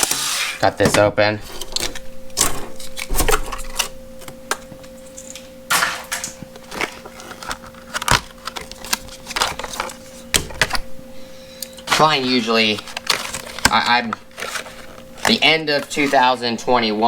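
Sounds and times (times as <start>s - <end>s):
faint steady hum: 0.0s - 17.0s
packaging crinkling: 1.4s - 17.0s
packaging clicks and snaps: 1.6s - 10.9s, 11.6s - 16.2s.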